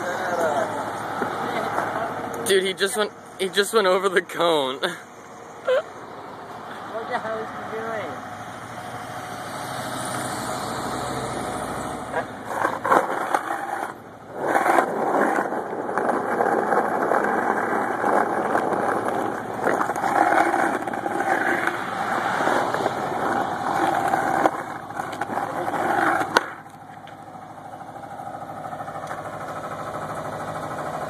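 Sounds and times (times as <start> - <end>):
asphalt roller engine running: 0.0 - 31.0.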